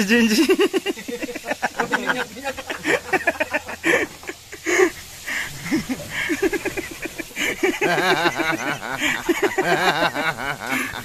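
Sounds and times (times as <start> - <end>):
people laughing: 0.2 - 11.0.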